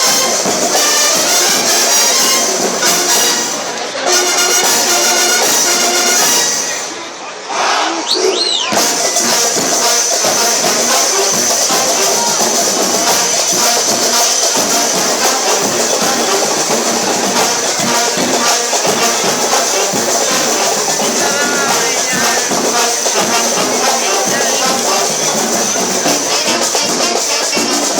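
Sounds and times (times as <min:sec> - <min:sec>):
loud music with percussion: 0:00.0 - 0:07.0, 0:08.7 - 0:27.9.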